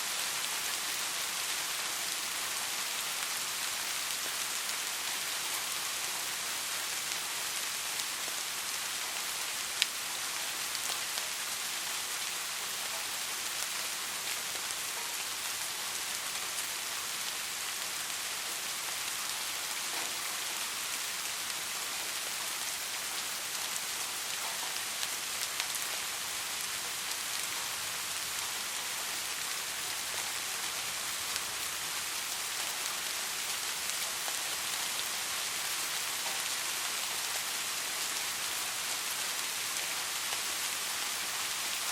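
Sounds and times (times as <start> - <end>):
soft rain falling: 0.0 - 41.9.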